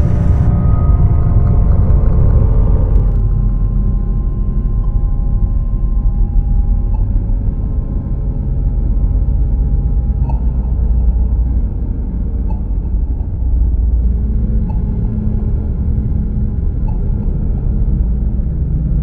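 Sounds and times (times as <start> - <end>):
deep low drone rumble: 0.0 - 19.0.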